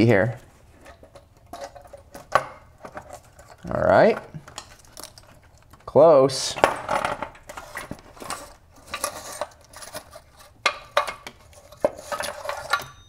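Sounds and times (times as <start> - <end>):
hard parts clicking and scraping: 0.0 - 13.0.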